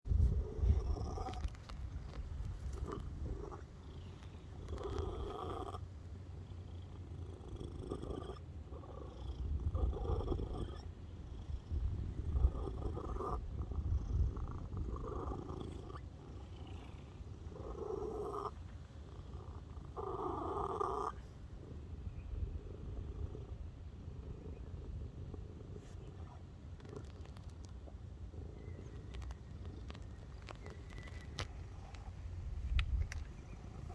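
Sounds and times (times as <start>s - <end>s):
cat purring: 0.1s - 33.9s.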